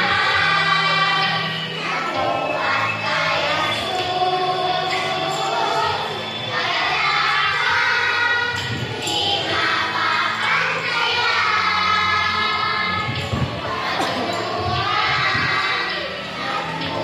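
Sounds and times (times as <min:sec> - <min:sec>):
children singing in unison: 0:00.0 - 0:17.0
music playing: 0:00.0 - 0:17.0.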